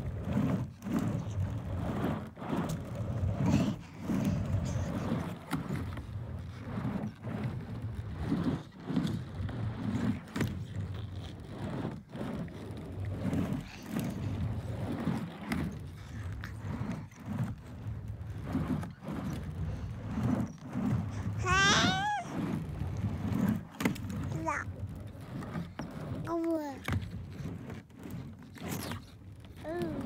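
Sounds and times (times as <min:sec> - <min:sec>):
skateboard wheels rolling on ramp: 0:00.0 - 0:30.0.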